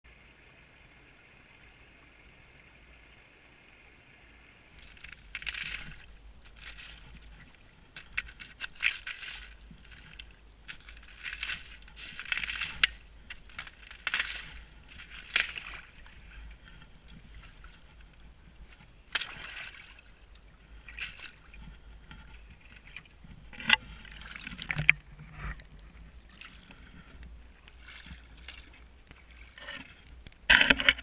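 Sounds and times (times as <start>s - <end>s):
faint steady hiss: 0.1s - 31.0s
muffled water splashing: 4.4s - 31.0s.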